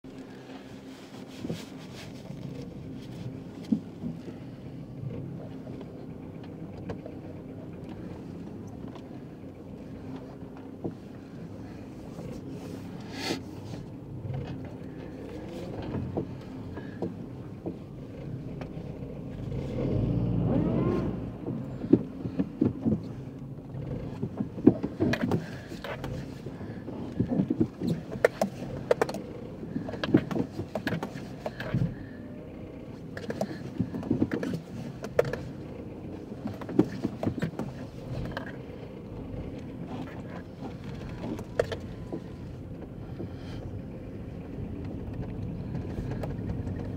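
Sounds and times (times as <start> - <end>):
car engine and road hum: 0.0 - 46.9.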